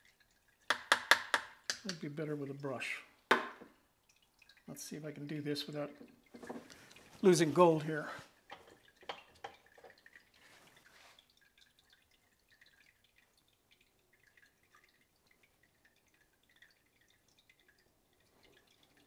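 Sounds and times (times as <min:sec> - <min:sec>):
water dripping and trickling: 0:00.0 - 0:19.0
water swishing: 0:03.7 - 0:19.0.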